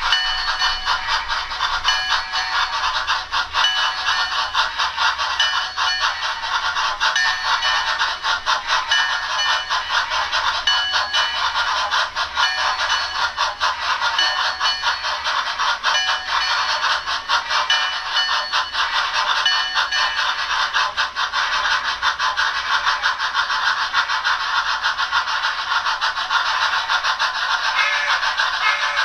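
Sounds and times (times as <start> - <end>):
steam locomotive chuffing: 0.0 - 29.0
wheels rattling on track: 0.0 - 29.0.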